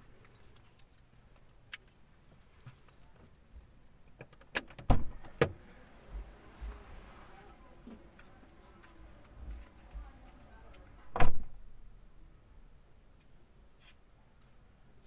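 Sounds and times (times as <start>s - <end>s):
faint street background: 0.0s - 15.0s.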